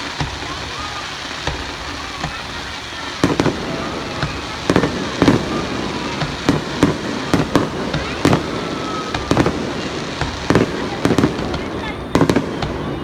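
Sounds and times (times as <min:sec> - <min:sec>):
background rush of noise: 0:00.0 - 0:13.0.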